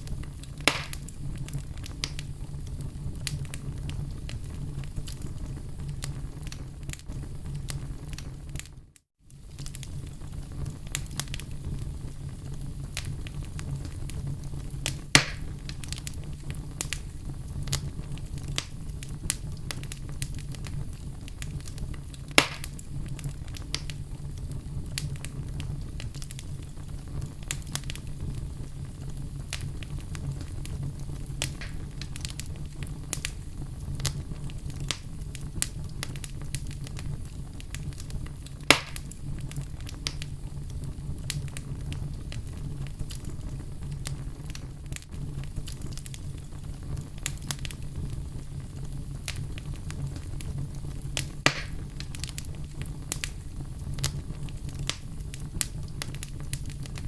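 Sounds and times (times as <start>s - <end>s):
fire crackling: 0.0s - 57.0s
fire popping: 0.0s - 57.0s.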